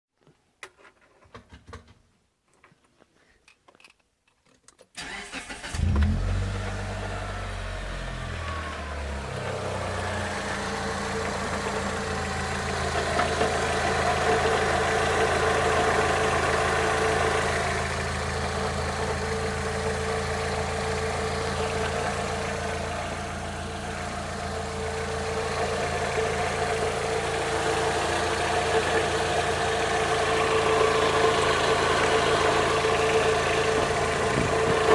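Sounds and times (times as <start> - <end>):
car engine starting and idling: 5.0 - 34.9.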